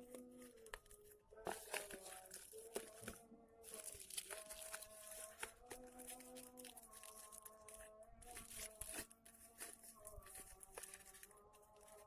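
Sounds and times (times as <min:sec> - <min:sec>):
paper crinkling and rustling: 0:00.0 - 0:12.0
sharp paper crackles: 0:00.0 - 0:12.0.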